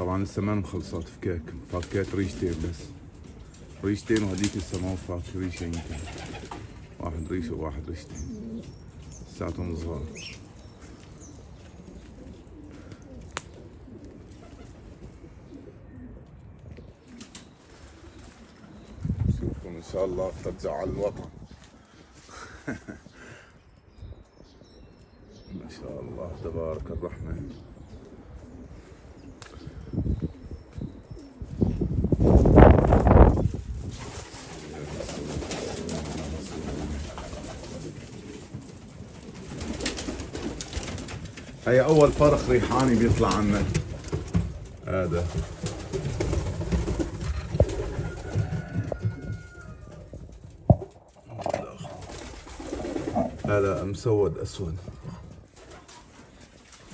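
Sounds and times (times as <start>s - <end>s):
pigeons cooing softly: 0.0s - 56.9s.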